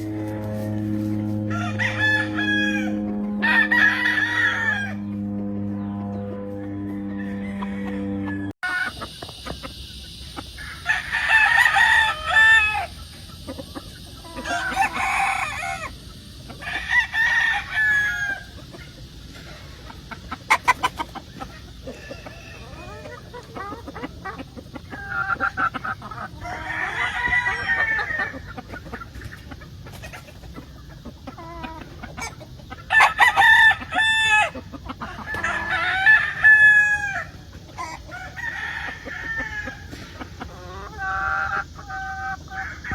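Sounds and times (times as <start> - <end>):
chicken calls: 0.0 - 42.9
roosters crowing: 0.0 - 42.9.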